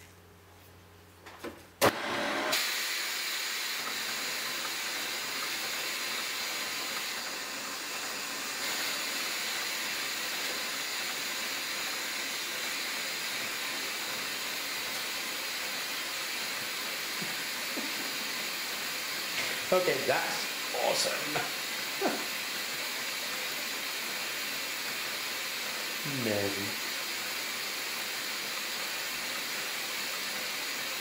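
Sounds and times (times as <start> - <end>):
vacuum cleaner running: 1.8 - 31.0.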